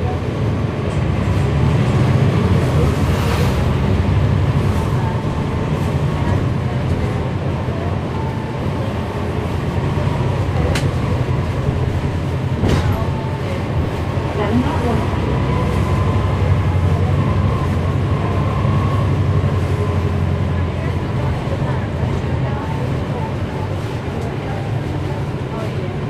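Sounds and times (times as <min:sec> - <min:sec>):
diesel bus engine rumble: 0:00.0 - 0:26.0.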